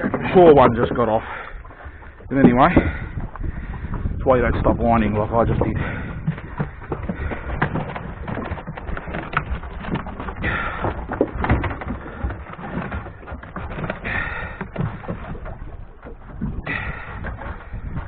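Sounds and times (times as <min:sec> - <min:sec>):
knocks and clatter of fishing gear: 0:00.0 - 0:18.0.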